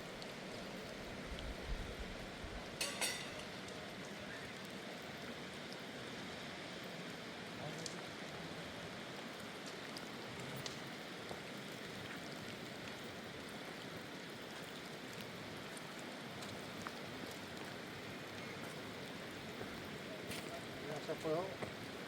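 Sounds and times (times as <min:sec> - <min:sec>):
steady rain falling: 0:00.0 - 0:22.0
ticks of raindrops: 0:00.0 - 0:22.0.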